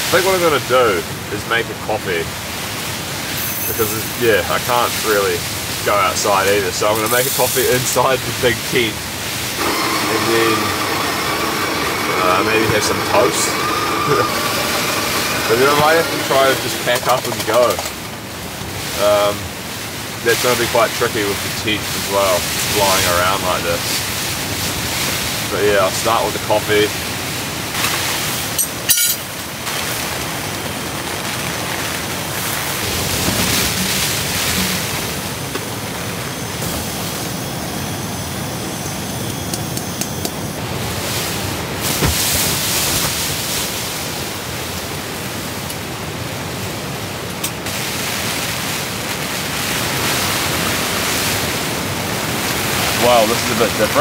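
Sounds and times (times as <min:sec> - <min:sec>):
heavy rain and wind on tent: 0:00.0 - 0:38.7, 0:40.3 - 0:54.0.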